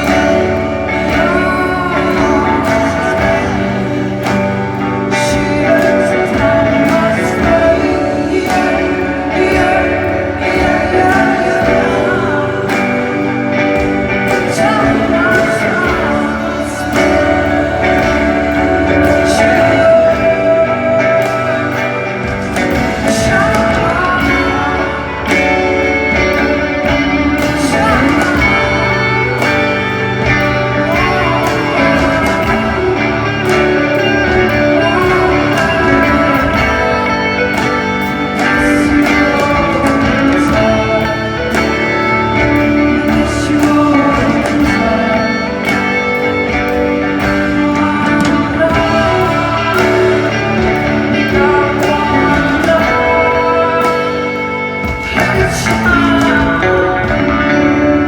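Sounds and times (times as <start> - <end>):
live band playing slow song: 0.0 - 58.0
person singing: 0.0 - 58.0.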